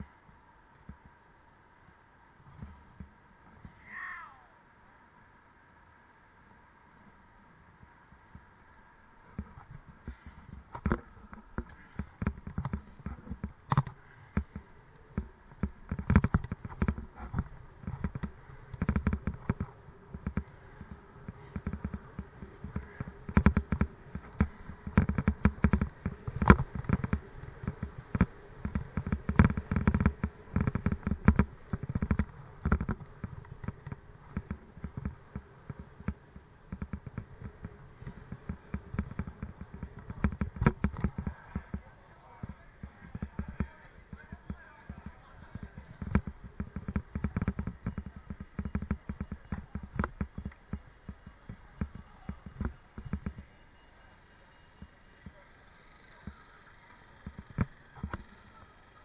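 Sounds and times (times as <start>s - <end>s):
faint steady buzz: 0.0s - 59.0s
bike rattling over rough road: 7.8s - 59.0s.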